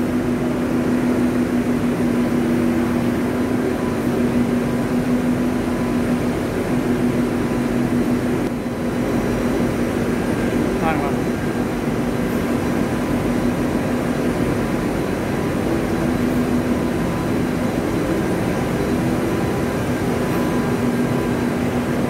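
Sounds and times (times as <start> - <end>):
machinery and fans humming: 0.0 - 22.0.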